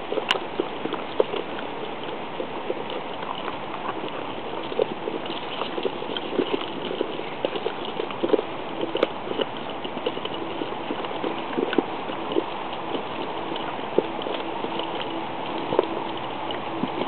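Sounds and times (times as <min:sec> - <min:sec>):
puppies eating from a bowl: 0:00.0 - 0:17.0.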